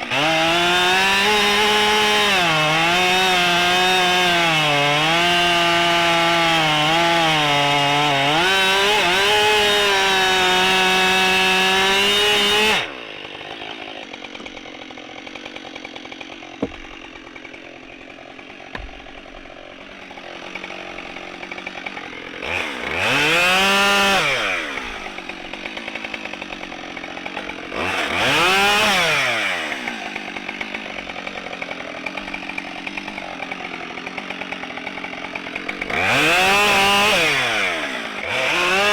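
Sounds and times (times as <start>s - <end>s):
chainsaw cutting log: 0.0s - 38.9s
chainsaw idling and revving: 0.0s - 38.9s.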